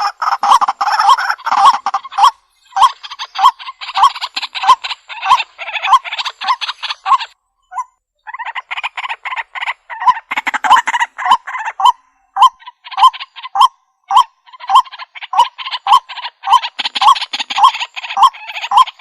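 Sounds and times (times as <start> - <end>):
waterhen calling harsh notes: 0.0 - 19.0.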